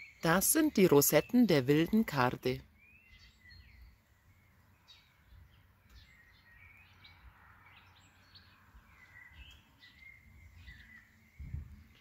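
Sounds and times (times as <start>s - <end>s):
faint birdsong chirps and whistles: 0.0s - 12.0s.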